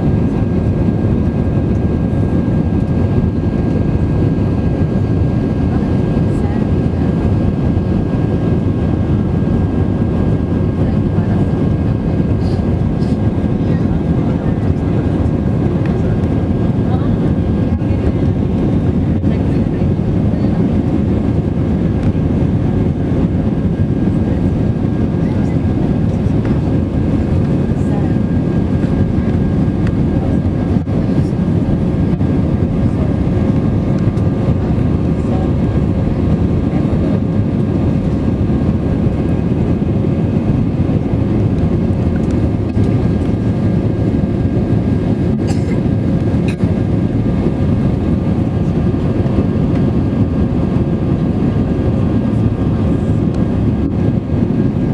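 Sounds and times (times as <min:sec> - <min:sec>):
airplane cabin rumble: 0:00.0 - 0:54.9.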